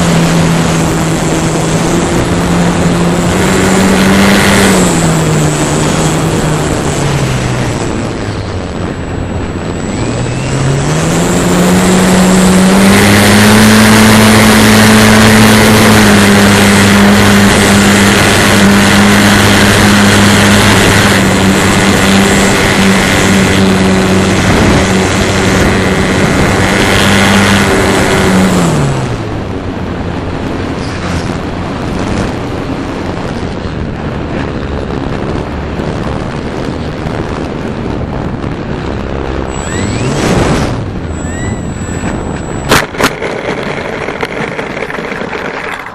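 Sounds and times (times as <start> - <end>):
wind rushing: 0.0 - 45.4
model airplane motor and propeller: 0.0 - 45.9.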